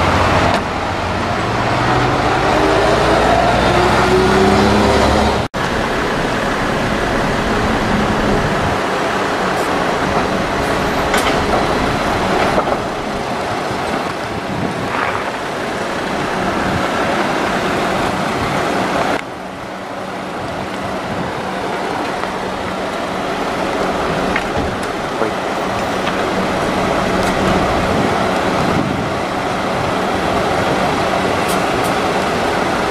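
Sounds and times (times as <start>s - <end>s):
bus diesel engine pulling away: 0.0s - 32.9s.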